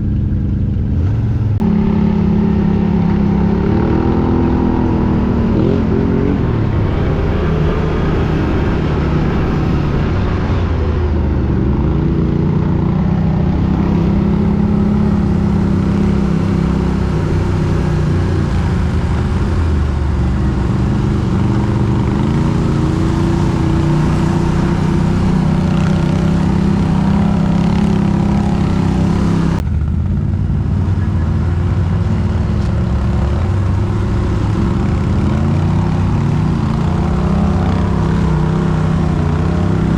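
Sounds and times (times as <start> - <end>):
quad bike engine revving: 0.9 - 39.9.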